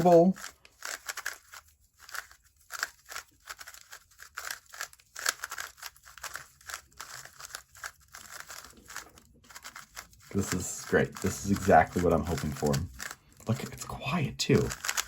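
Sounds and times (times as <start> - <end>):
puzzle cube turning clicks: 0.0 - 15.0.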